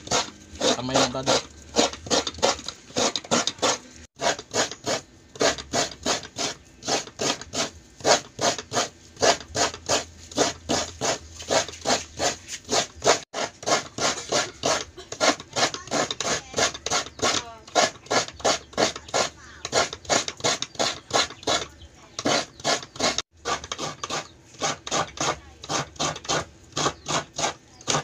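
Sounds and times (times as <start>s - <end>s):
hands kneading wet coconut: 0.0s - 28.0s.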